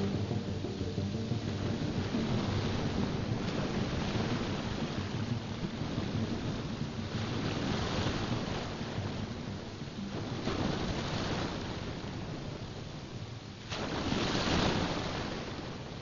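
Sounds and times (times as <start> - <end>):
soft background music: 0.0 - 13.7
surging waves: 0.0 - 16.0
wind: 0.0 - 16.0.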